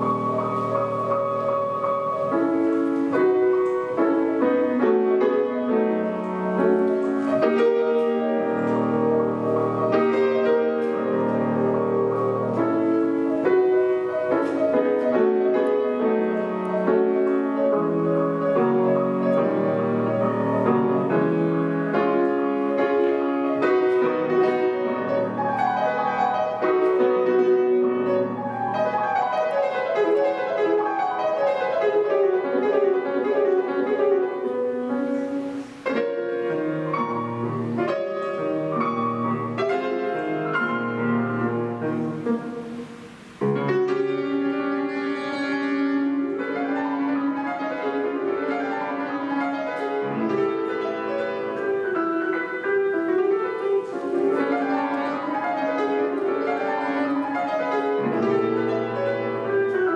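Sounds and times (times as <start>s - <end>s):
solo classical piano: 0.0s - 59.9s.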